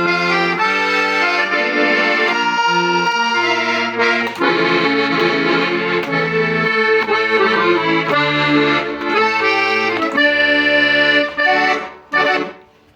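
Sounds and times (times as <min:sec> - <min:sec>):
accordion chords: 0:00.0 - 0:12.9.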